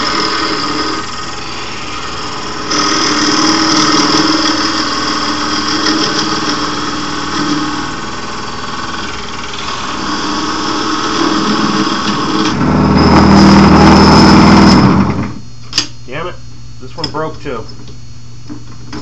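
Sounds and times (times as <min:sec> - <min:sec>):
wood lathe motor running: 0:00.0 - 0:15.4.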